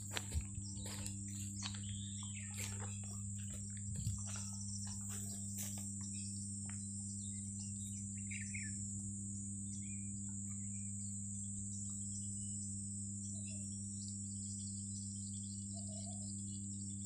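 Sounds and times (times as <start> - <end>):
bird chirp: 0.0 - 8.8, 9.7 - 12.6, 13.2 - 17.0
crickets droning: 0.0 - 17.0
low steady hum: 0.0 - 17.0.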